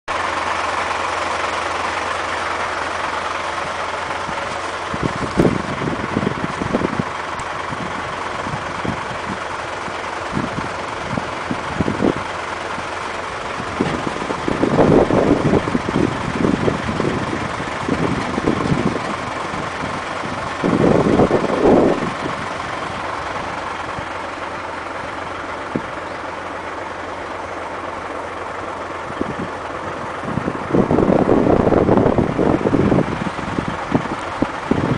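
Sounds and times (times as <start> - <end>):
dump truck engine running: 0.1 - 34.9
wind buffeting microphone: 1.4 - 34.9.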